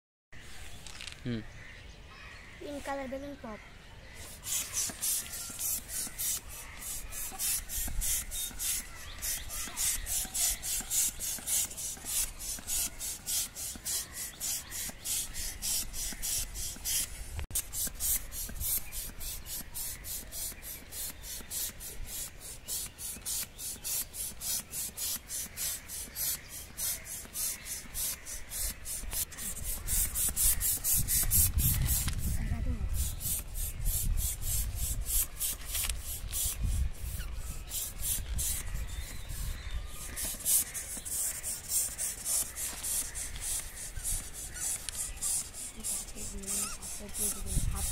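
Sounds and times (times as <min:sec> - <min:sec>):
hand balloon pump hissing: 0:04.2 - 0:47.9.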